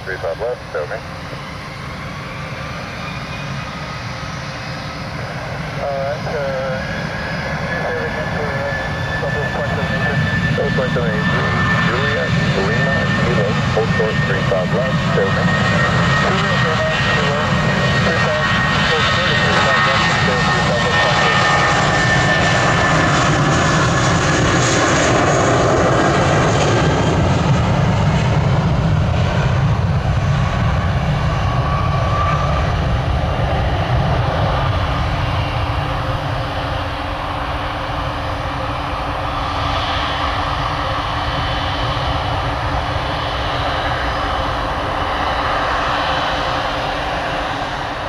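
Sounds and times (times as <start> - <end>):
jet engine rumble with whine: 0.0 - 48.0.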